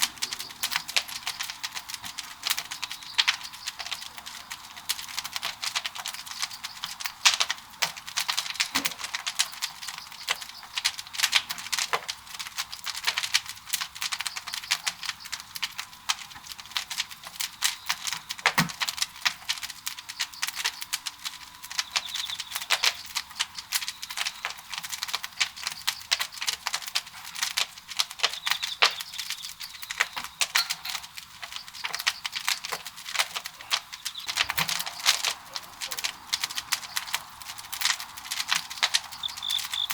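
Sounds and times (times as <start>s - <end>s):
fire pops: 0.0s - 39.9s
wood fire crackling: 0.0s - 39.9s.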